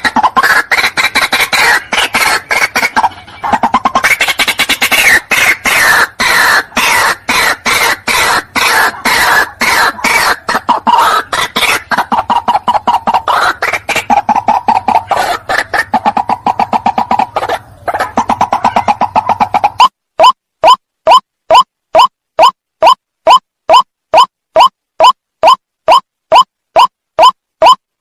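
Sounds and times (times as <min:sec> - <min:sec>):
bird calling harsh notes: 0:00.0 - 0:27.8.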